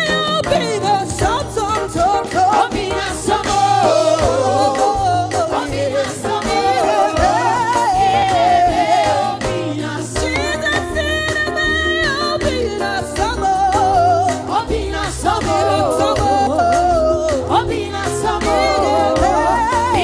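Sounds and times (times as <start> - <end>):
backing band with bass: 0.0 - 20.0
person singing gospel: 0.0 - 20.0.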